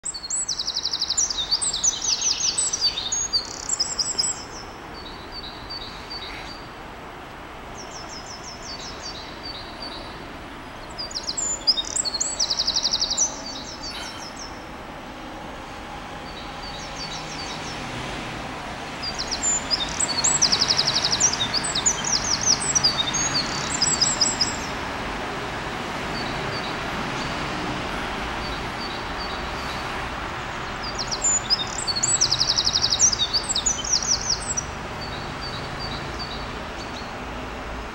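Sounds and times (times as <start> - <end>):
wren singing trills: 0.0 - 6.7, 7.7 - 14.7, 16.2 - 17.9, 18.8 - 24.8, 28.4 - 37.4
steady background noise: 0.1 - 37.9.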